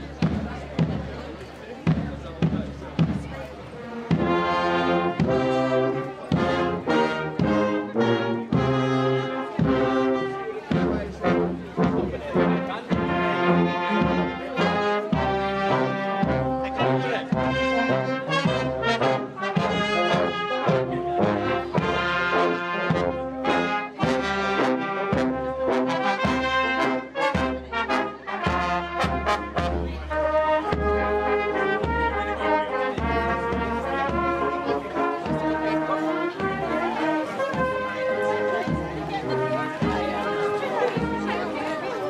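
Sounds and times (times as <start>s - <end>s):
steady drum beat: 0.0s - 41.8s
brass instruments playing chords: 3.8s - 42.0s.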